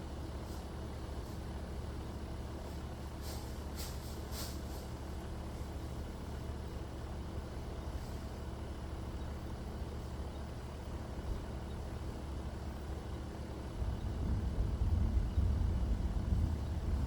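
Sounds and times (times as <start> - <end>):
steady low rumble: 0.0 - 10.1, 12.7 - 17.0.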